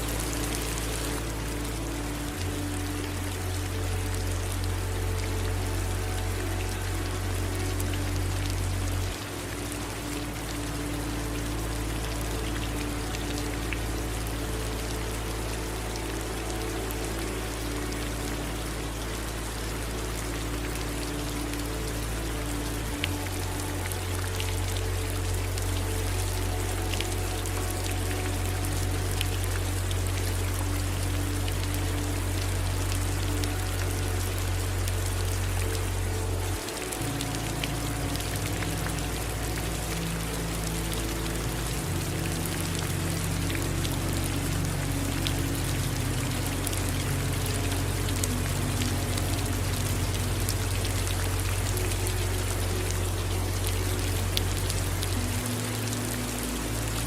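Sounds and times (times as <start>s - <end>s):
low steady rumble: 0.0s - 57.0s
rain drops pattering: 0.0s - 57.0s
running water: 0.0s - 57.0s.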